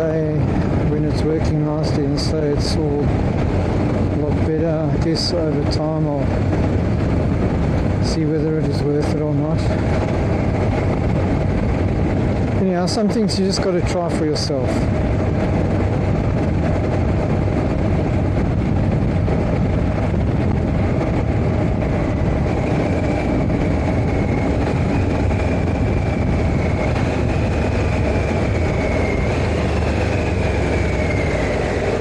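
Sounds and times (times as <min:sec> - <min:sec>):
riding noise rush: 0:00.0 - 0:32.0.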